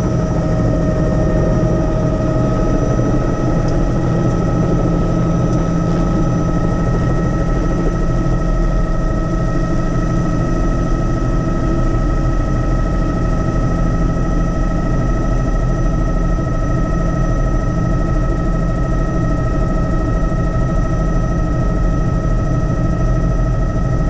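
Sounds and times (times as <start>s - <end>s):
helicopter engine and rotor rumble: 0.0s - 24.0s.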